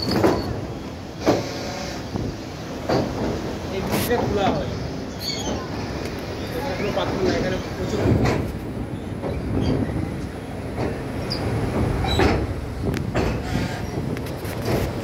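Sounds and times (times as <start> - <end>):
rail clacks and knocks: 0.0 - 4.7, 5.4 - 15.0
train wheels rumbling: 0.0 - 15.0.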